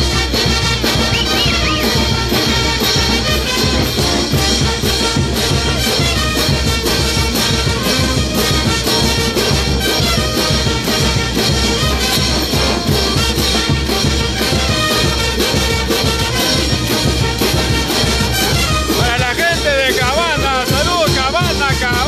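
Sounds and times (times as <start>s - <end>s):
bass drum beat: 0.0s - 22.0s
brass band playing dance tune: 0.0s - 22.0s.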